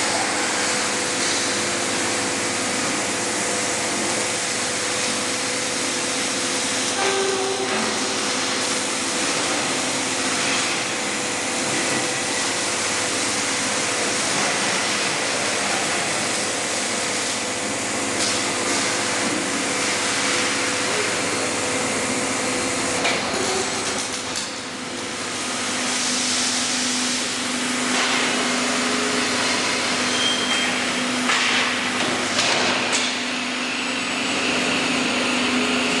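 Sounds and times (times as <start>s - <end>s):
machine hiss and hum: 0.0s - 36.0s.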